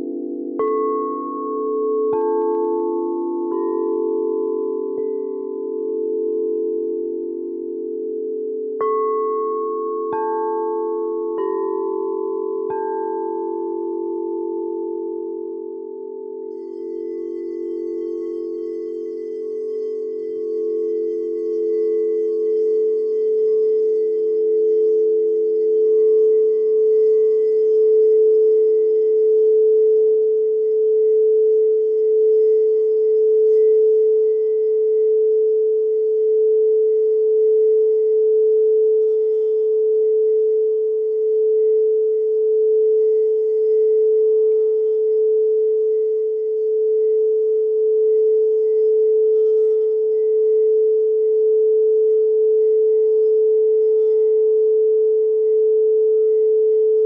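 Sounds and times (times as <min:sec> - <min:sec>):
lower singing bowl tones: 0:00.0 - 0:57.0
singing bowl steady tone: 0:00.0 - 0:57.0.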